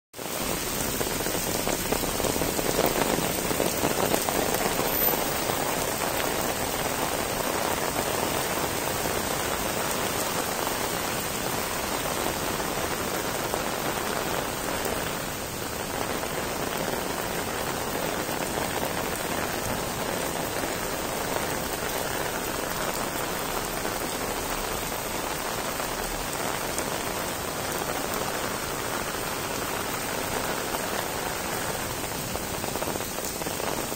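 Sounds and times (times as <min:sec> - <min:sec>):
heavy rain on stone paving: 0:00.1 - 0:33.9.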